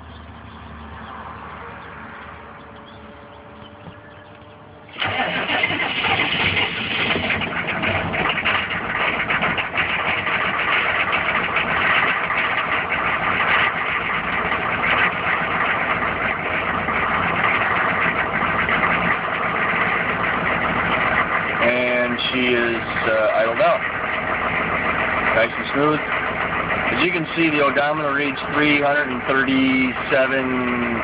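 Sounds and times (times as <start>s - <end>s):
diesel engine starting and running: 0.0s - 31.0s.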